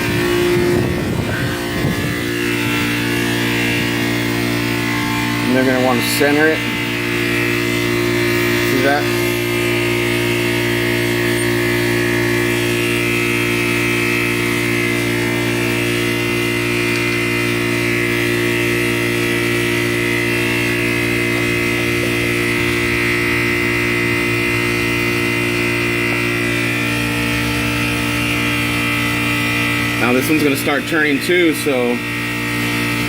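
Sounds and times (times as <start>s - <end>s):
mechanical drone with whine: 0.0s - 33.0s.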